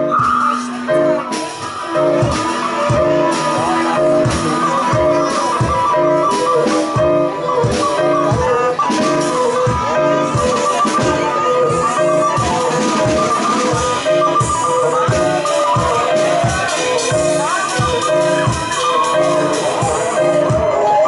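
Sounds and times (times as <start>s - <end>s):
high held melodic line: 0.0s - 21.0s.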